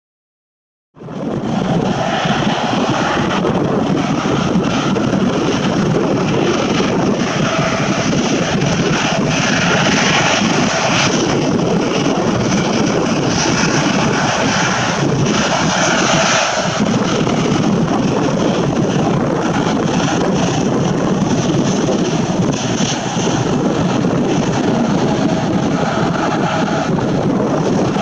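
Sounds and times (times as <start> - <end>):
jet engines at takeoff: 1.0 - 28.0.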